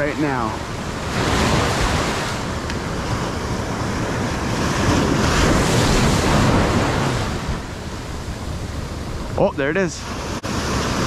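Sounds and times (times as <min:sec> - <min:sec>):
ocean surf breaking on sand: 0:00.0 - 0:11.0.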